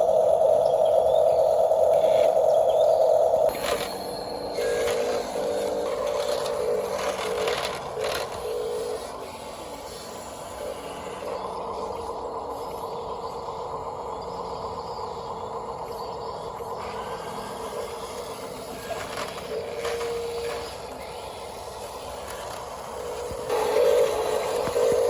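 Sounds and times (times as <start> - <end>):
toy electric motors whining: 0.0 - 25.0.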